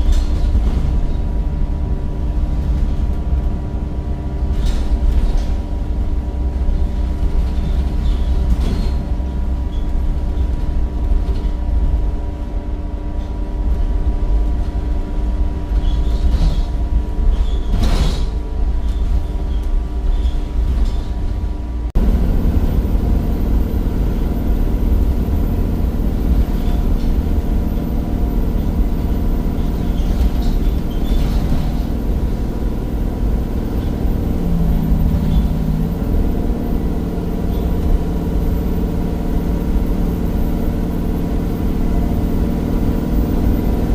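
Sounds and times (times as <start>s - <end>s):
bus diesel engine drone: 0.0s - 43.9s.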